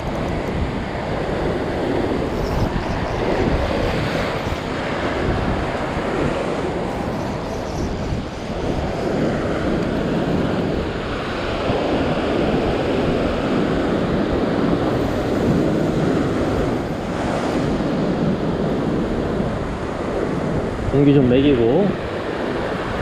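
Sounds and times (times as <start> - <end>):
ocean surf breaking: 0.0 - 23.0
wind buffeting microphone: 0.0 - 23.0.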